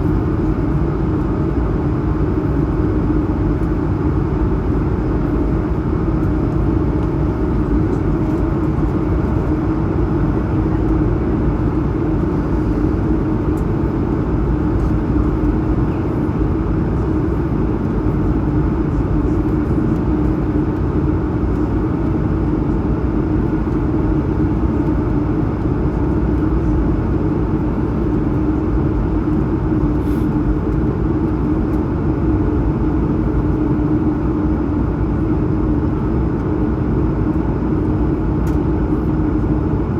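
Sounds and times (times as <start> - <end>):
constant low hum: 0.0 - 39.9
jet engines in cabin: 0.0 - 39.9.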